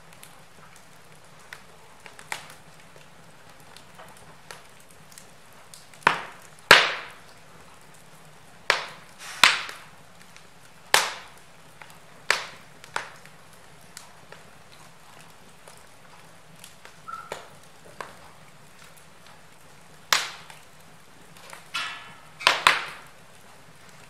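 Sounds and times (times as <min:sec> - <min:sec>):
logs burning and crackling: 0:00.0 - 0:24.0.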